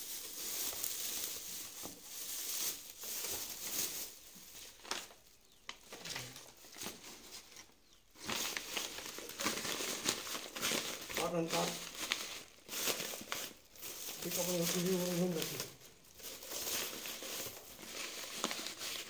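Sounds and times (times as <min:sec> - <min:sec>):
dry straw rustling and crackling: 0:00.0 - 0:19.0
paper crinkling: 0:00.0 - 0:19.0.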